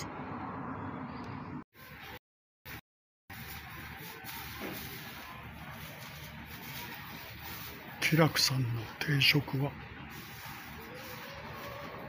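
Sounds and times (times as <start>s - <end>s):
restaurant room noise: 0.0s - 12.0s.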